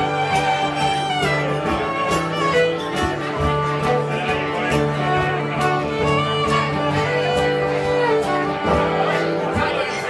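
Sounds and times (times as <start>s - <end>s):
live band playing instrumental: 0.0s - 10.0s.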